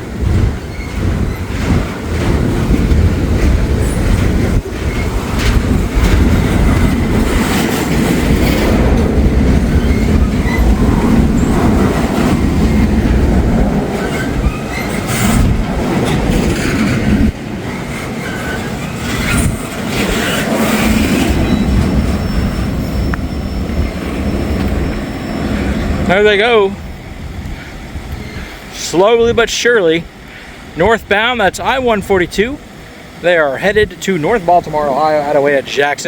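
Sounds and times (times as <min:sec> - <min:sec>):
freight train rumbling: 0:00.0 - 0:36.0
wheels clacking over rail joints: 0:00.0 - 0:36.0.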